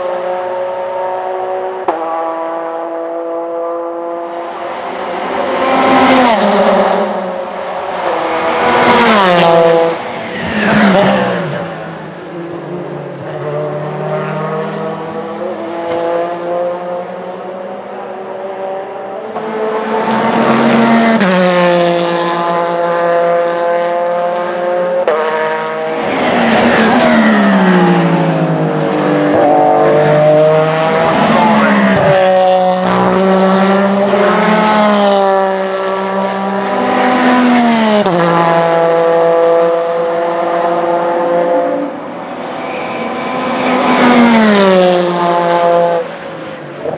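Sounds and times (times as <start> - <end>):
race car passing at full throttle: 0.0 - 46.9.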